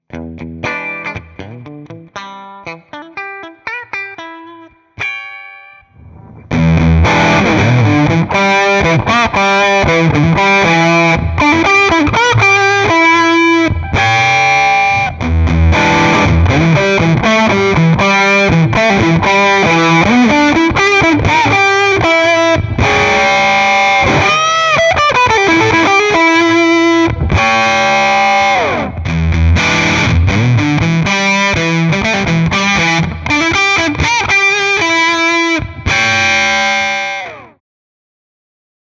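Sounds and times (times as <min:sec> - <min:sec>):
distorted electric guitar riffs: 0:00.0 - 0:37.6.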